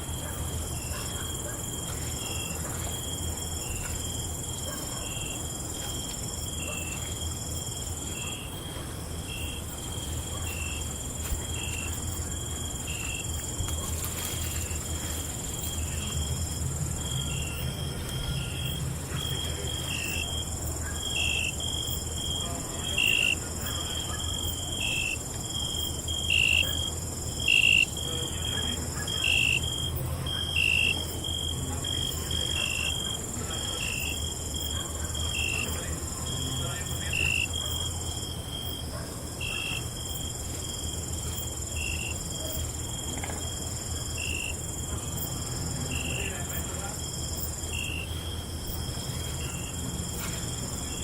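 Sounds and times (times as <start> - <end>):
crickets trilling and chirping: 0.0 - 51.0.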